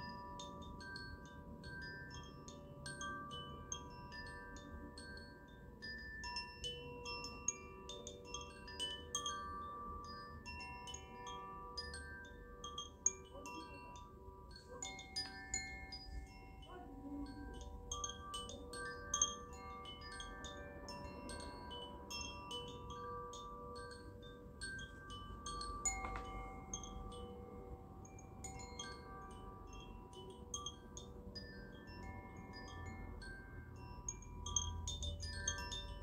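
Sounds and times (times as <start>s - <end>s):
wind chimes ringing: 0.0s - 36.0s.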